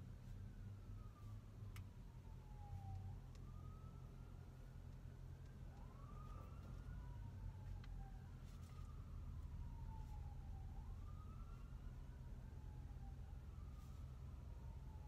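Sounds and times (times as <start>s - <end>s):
faint siren wailing: 0.0s - 15.0s
low steady rumble: 0.0s - 15.0s.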